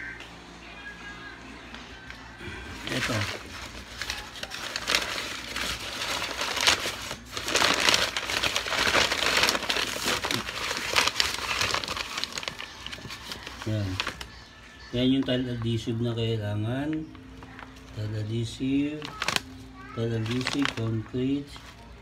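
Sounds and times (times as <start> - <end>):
paper sack crinkling: 2.7 - 16.1, 16.7 - 22.0.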